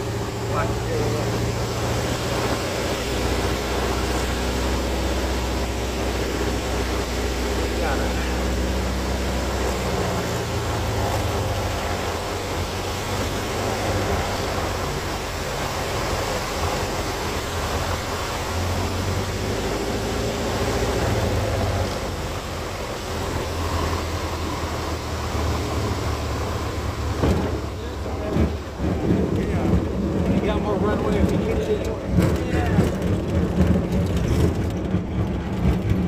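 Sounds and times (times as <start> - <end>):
light aircraft engine and propeller: 0.0 - 36.0
rush of airflow: 0.0 - 36.0.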